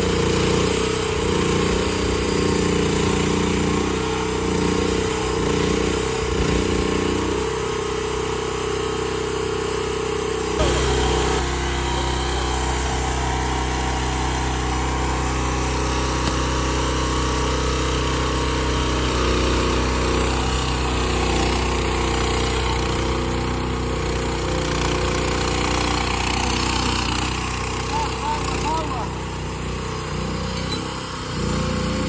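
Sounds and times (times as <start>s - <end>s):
skid steer engine running: 0.0s - 32.0s.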